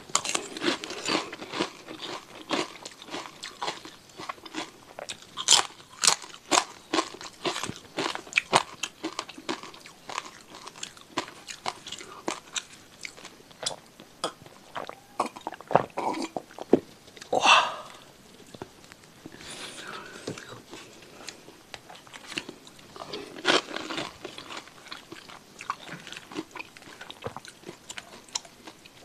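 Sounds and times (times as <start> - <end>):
crunching and chewing crackers: 0.0 - 29.0.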